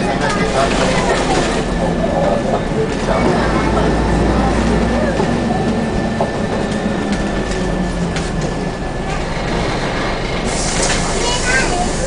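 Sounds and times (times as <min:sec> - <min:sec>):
bus engine droning: 0:00.0 - 0:12.0
road and tyre rumble: 0:00.0 - 0:12.0.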